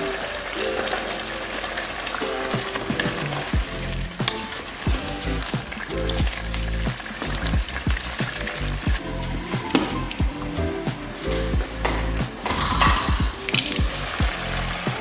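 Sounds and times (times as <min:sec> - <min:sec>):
chicken sizzling in a pot: 0:00.0 - 0:15.0
background music with low beat: 0:02.4 - 0:15.0.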